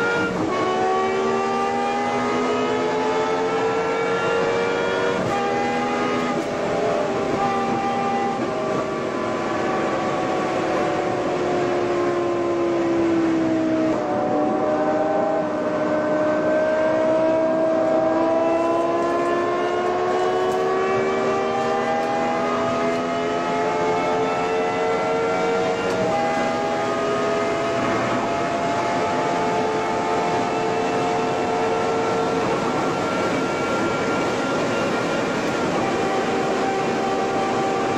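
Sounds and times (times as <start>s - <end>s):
car engine under acceleration: 0.0s - 37.9s.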